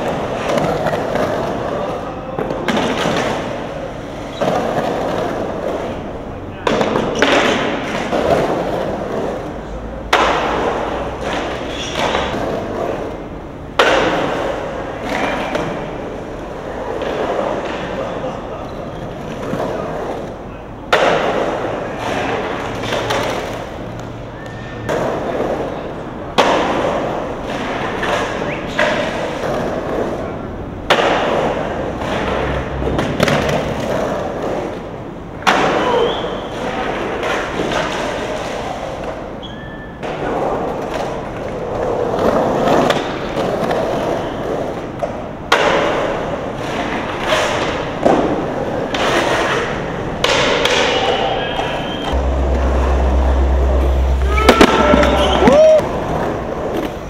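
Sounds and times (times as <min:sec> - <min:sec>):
skateboard wheels rolling on concrete: 0:00.0 - 0:57.0
skateboard thud: 0:02.4 - 0:18.2, 0:20.9 - 0:23.8, 0:26.3 - 0:30.2, 0:30.8 - 0:39.3, 0:40.0 - 0:57.0.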